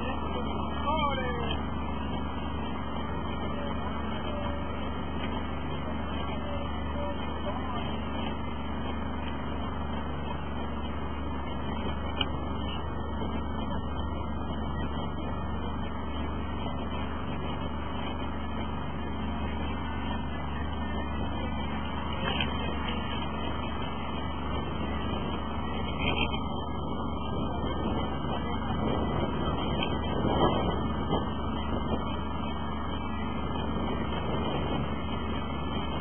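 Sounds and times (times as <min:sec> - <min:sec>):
boat motor rumbling: 0:00.0 - 0:36.0
water and wind noise: 0:00.0 - 0:36.0.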